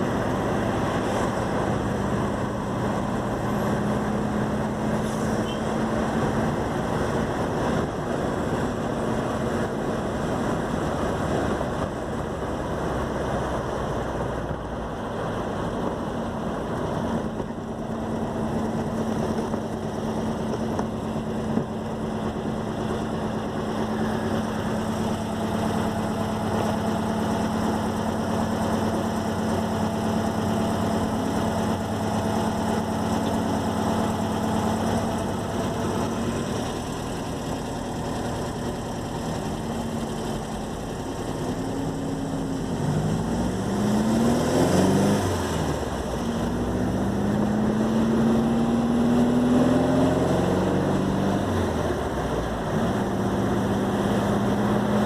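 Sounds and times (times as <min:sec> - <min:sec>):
car engine running steadily: 0:00.0 - 0:55.0.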